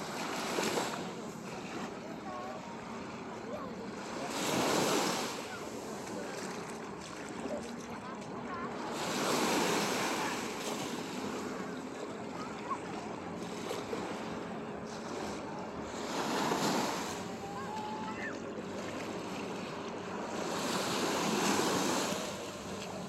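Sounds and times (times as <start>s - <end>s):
gentle surf on sandy beach: 0.0s - 23.0s.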